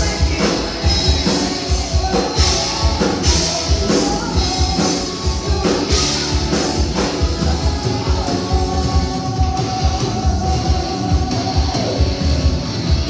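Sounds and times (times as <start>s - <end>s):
distorted electric guitar: 0.0s - 13.0s
electric bass: 0.0s - 13.0s
pounding drum kit: 0.0s - 13.0s.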